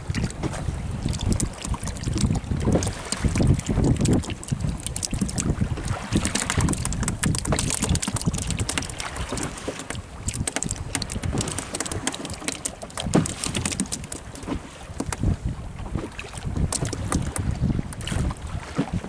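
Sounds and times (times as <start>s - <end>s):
waves slapping boat hull: 0.0s - 19.0s
wind buffeting microphone: 0.0s - 19.0s.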